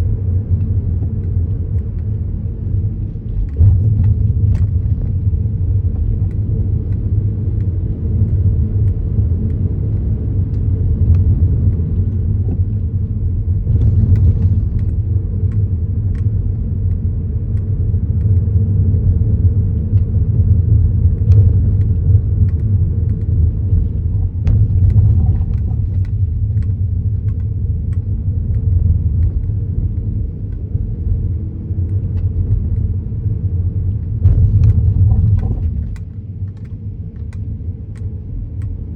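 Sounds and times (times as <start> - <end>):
low road rumble: 0.0 - 38.9.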